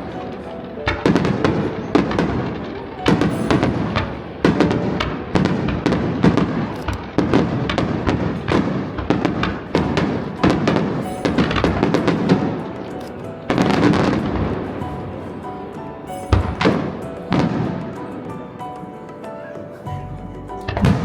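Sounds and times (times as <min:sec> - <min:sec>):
fireworks bursting: 0:00.0 - 0:19.8, 0:20.6 - 0:21.0.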